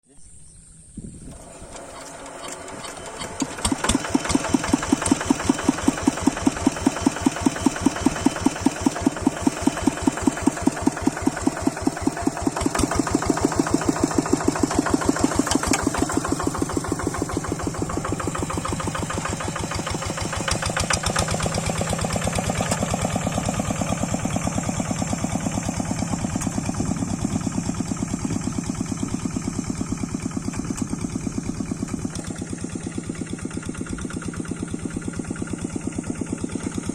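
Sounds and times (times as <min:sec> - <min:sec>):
single-cylinder diesel engine running: 0:01.2 - 0:36.9.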